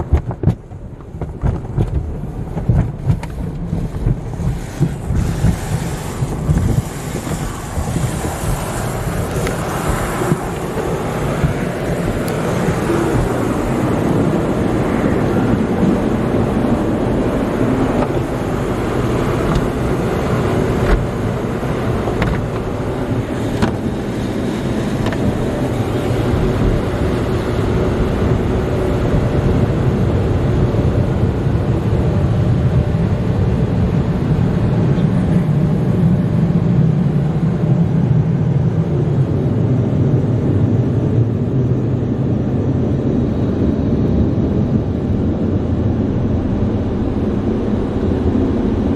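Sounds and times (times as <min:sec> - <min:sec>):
car wash dryer blowers: 0:00.0 - 0:48.9.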